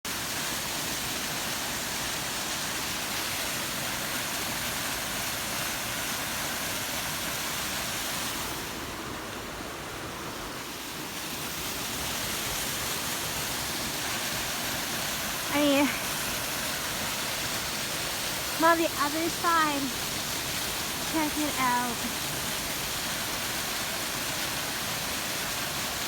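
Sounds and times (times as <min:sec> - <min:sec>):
waterfall roaring: 0:00.1 - 0:26.0.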